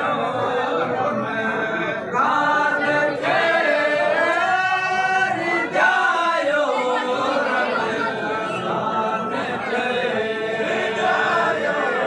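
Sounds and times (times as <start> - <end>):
voices singing without instruments: 0.0 - 12.0.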